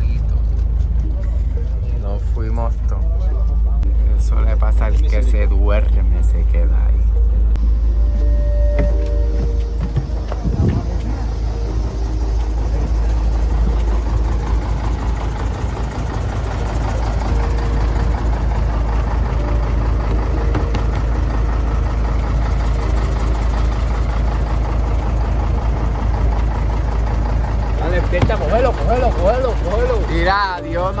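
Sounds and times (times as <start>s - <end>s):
bus engine idling: 0.0s - 31.0s.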